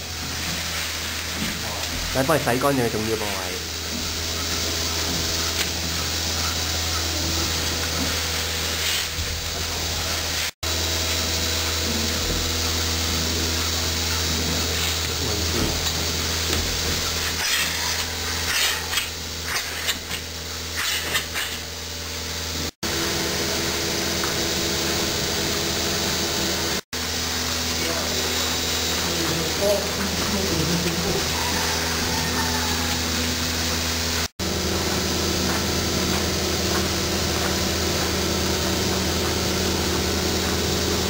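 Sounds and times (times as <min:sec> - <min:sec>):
milking machine hissing: 0:00.0 - 0:41.0
milking machine vacuum drone: 0:00.0 - 0:41.0.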